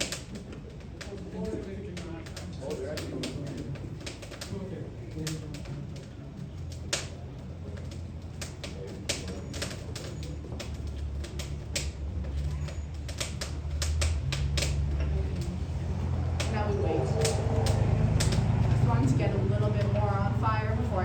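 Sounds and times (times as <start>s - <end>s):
steady low hum: 0.0s - 21.0s
wood kindling crackling: 0.0s - 21.0s.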